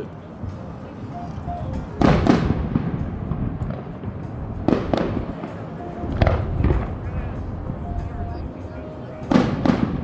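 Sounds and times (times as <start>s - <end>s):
fireworks bangs: 0.4s - 8.4s, 9.2s - 10.0s.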